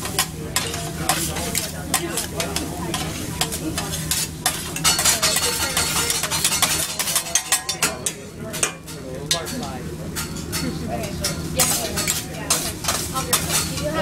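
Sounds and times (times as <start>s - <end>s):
rice sizzling: 0.0s - 9.1s, 11.4s - 14.0s
metal spatulas clacking on griddle: 0.0s - 14.0s.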